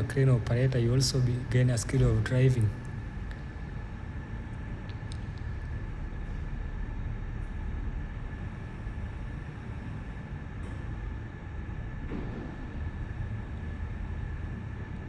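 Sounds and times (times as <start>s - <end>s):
crane engine rumbling: 0.0s - 15.0s
faint steady whine: 0.0s - 15.0s.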